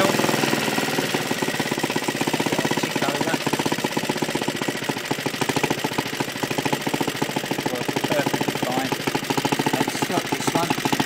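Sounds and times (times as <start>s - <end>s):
lawnmower engine running: 0.0s - 11.0s.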